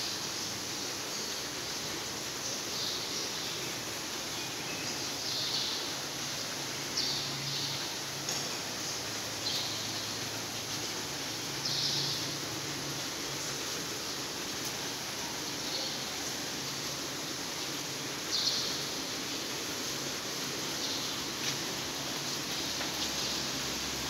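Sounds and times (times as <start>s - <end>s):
heavy rain on building: 0.0s - 24.0s.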